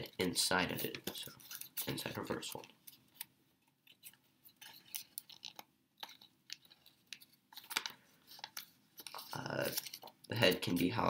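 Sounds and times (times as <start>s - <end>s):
paper crinkling and rustling: 0.8s - 11.0s.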